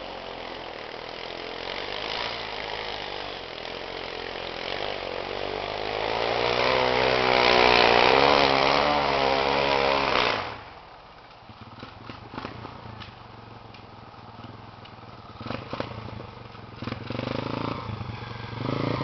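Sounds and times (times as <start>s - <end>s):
small motorbike engine revving: 0.0s - 10.8s, 14.4s - 19.0s.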